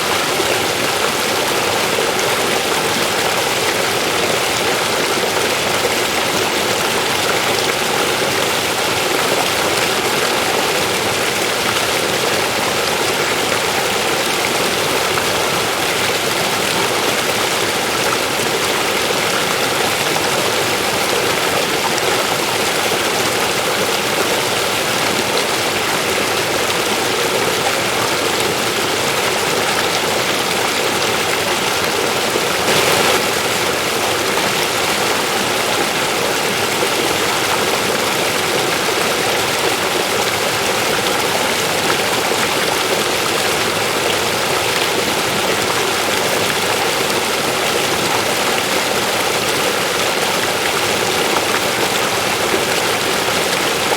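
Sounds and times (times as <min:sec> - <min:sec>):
river water rushing over rocks: 0:00.0 - 0:53.9.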